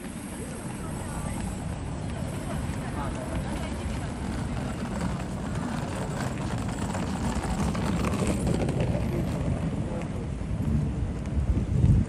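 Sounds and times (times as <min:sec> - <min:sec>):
crowd noise: 0:00.0 - 0:11.2
traffic noise: 0:00.0 - 0:12.0
low rumble: 0:00.8 - 0:12.0.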